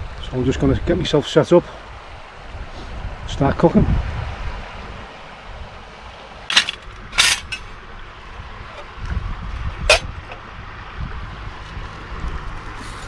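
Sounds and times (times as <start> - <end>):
wind rumble on microphone: 0.0 - 1.2, 1.8 - 6.2, 6.9 - 13.0.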